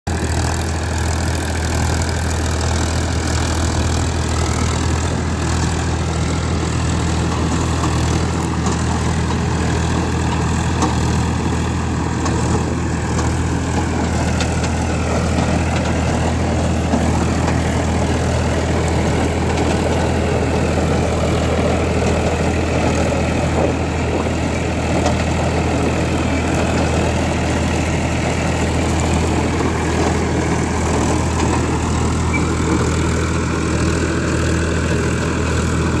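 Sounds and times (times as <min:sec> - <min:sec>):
tractor diesel engine running: 0:00.0 - 0:36.0
rotavator working: 0:00.1 - 0:36.0.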